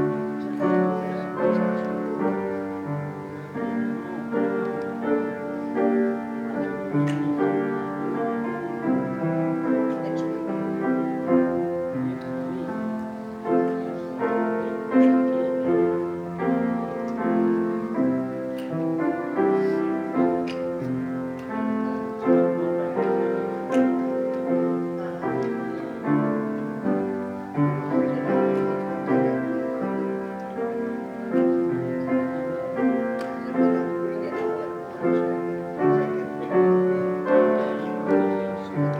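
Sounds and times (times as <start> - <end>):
piano piece: 0.0 - 38.9.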